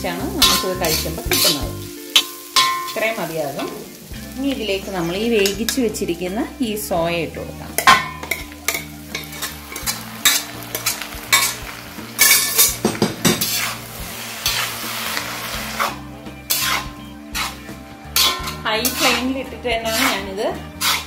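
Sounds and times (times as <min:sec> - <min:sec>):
food sizzling in a pan: 0:00.0 - 0:21.0
metal spatula scraping pan: 0:00.2 - 0:03.9, 0:07.7 - 0:21.0.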